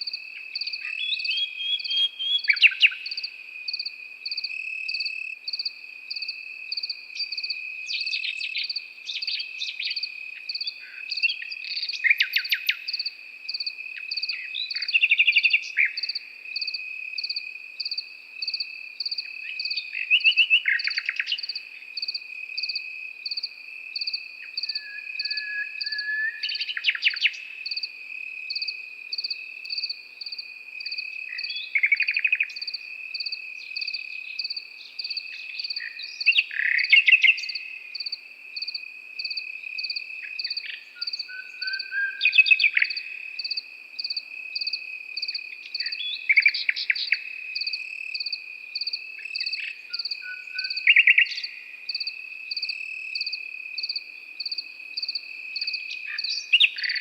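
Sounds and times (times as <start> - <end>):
cricket steady trill: 0.0 - 57.0
higher cricket chirping: 0.0 - 57.0
nightingale singing: 0.0 - 57.0.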